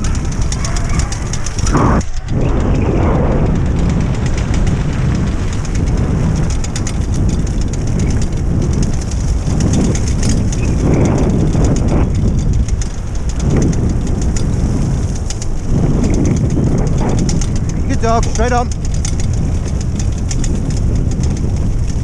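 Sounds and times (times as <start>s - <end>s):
wheels rolling and rattling: 0.0s - 22.0s
wind rushing over microphone: 0.0s - 22.0s.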